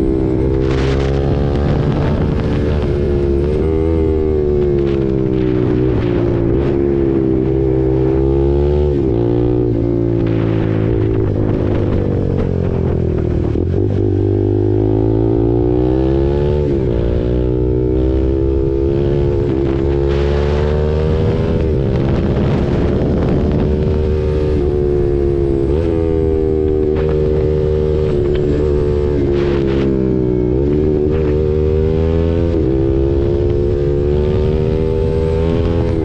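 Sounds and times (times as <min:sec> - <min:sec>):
motorcycle engine running: 0:00.0 - 0:36.0
wind rumble on microphone: 0:00.0 - 0:36.0.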